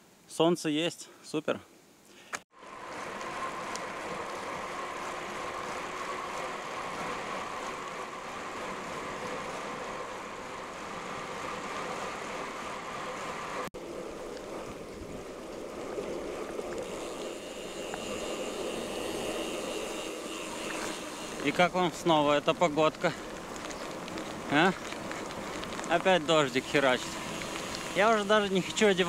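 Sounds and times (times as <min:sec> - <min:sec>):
bicycle road noise: 0:02.5 - 0:29.0
rushing wind: 0:02.5 - 0:29.0.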